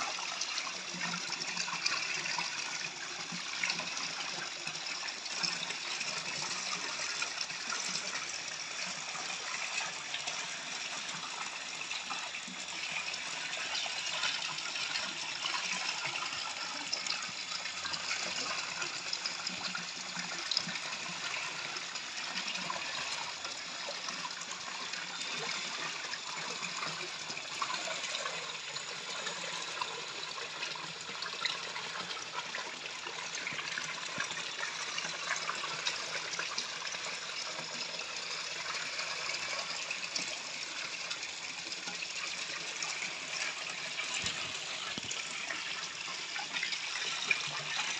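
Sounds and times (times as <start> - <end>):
water pouring and splashing into pool: 0.0 - 47.9.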